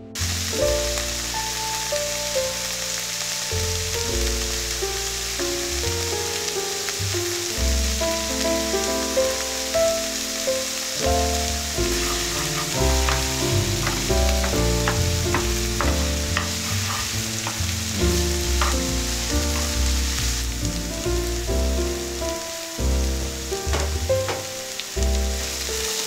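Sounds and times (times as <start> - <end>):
background music: 0.0 - 26.0
onions sizzling in oil: 0.2 - 26.0.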